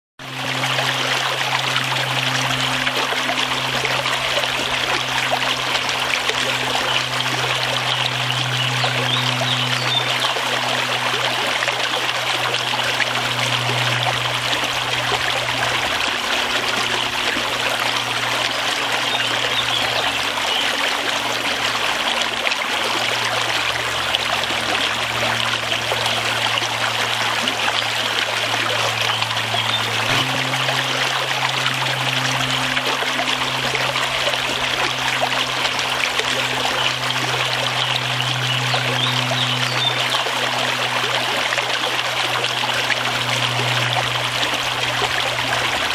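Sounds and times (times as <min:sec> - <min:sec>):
low steady hum: 0:00.2 - 0:45.9
water rushing over rocks: 0:00.2 - 0:45.9.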